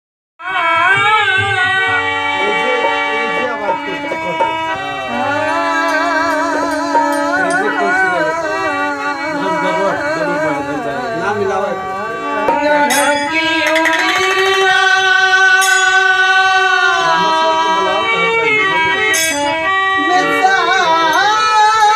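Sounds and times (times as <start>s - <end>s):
person singing melismatically: 0.5s - 21.9s.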